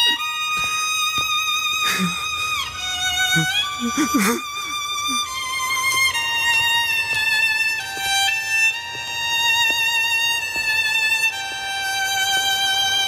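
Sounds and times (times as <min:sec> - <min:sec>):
solo violin slow notes: 0:00.0 - 0:13.0.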